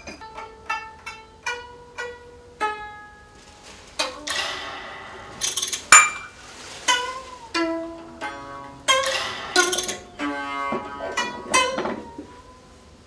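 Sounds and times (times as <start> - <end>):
plucked or struck notes: 0.0 - 12.8.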